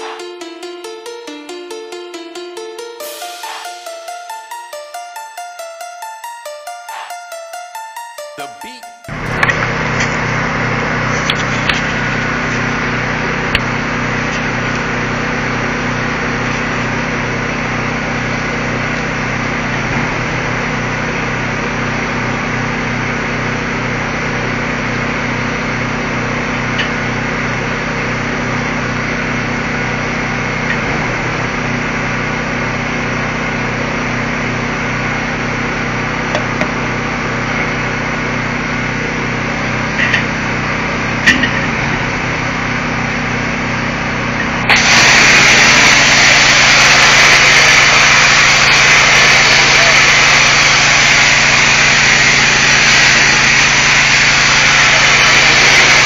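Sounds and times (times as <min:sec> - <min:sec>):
engine droning: 0:09.1 - 0:56.0.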